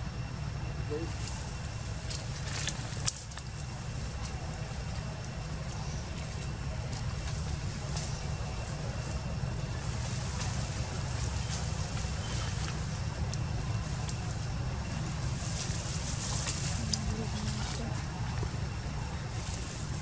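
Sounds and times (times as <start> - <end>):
faint clicks and rustles: 1.1 - 20.0.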